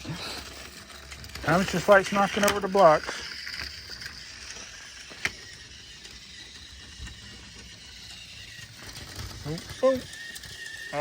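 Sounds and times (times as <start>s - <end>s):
toy train motor whine: 0.0s - 11.0s
toy train wheels rattling: 0.0s - 11.0s.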